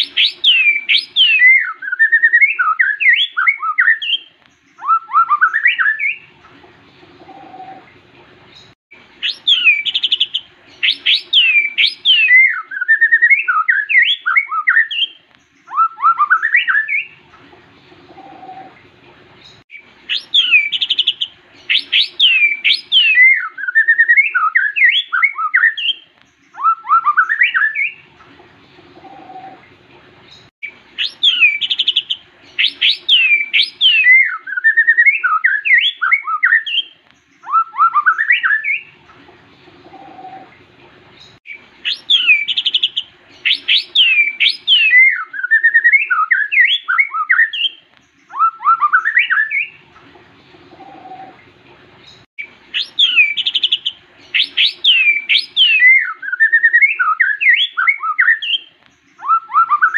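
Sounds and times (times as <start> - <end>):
bird singing whistled notes: 0.0 - 6.3, 8.6 - 17.2, 19.5 - 28.1, 30.6 - 39.0, 41.5 - 49.9, 52.1 - 59.9.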